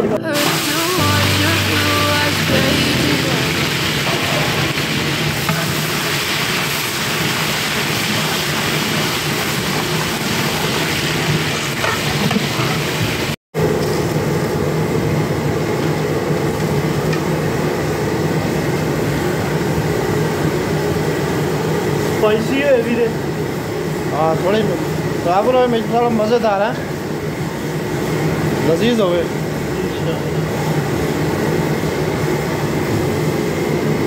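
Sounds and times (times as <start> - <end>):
burner roaring with low hum: 0.0 - 34.0.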